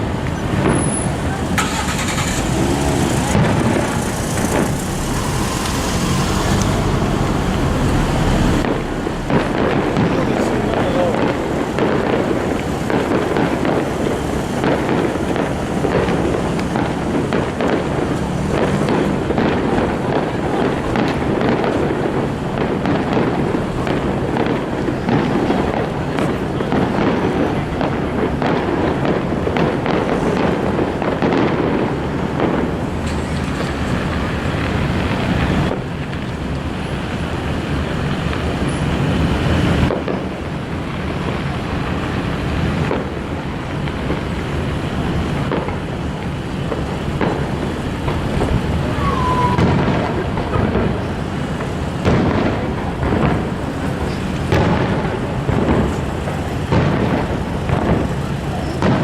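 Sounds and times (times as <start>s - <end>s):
fireworks booms and crackles: 0.0s - 1.7s, 2.3s - 59.0s
sharp firework bangs: 0.0s - 59.0s.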